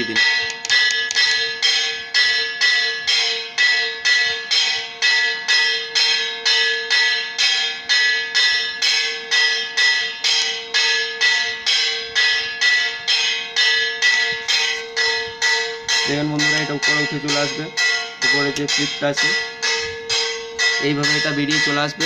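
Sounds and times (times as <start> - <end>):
bell struck: 0.0 - 22.0.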